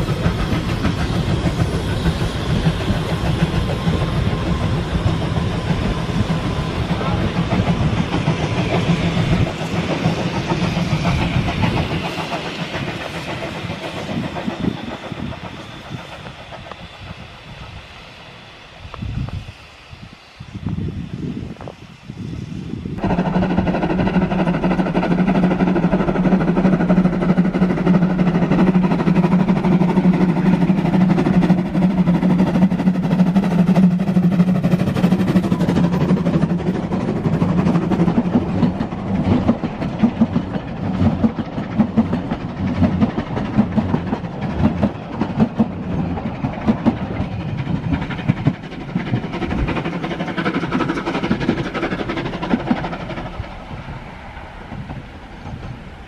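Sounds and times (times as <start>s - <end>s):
train wheels clattering over rail joints: 0.0s - 17.8s, 23.0s - 56.0s.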